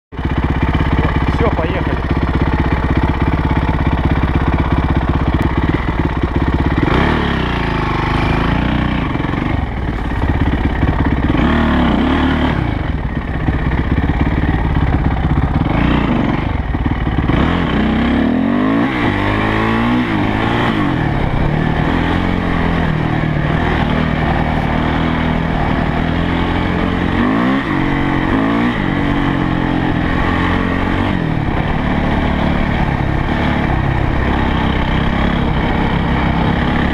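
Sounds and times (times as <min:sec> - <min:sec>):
motorbike engine idling: 0:00.1 - 0:36.9
motorbike revving on dirt track: 0:00.1 - 0:36.9.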